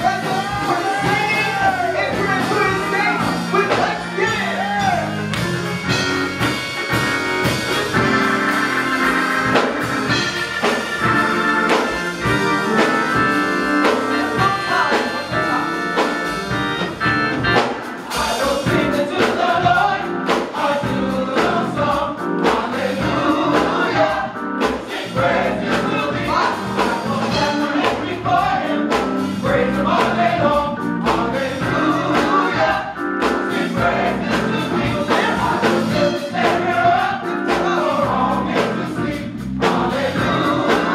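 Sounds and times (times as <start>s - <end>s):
band accompaniment: 0.0s - 40.9s
gospel choir singing: 0.0s - 40.9s.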